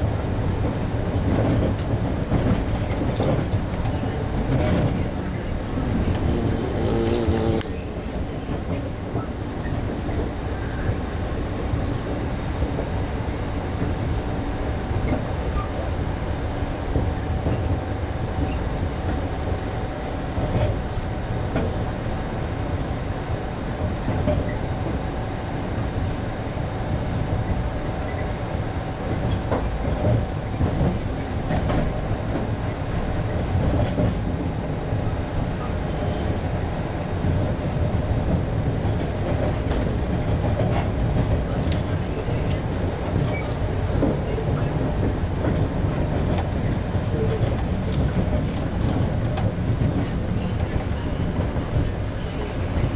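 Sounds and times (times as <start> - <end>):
subway wheels rumbling on rails: 0.0 - 52.9.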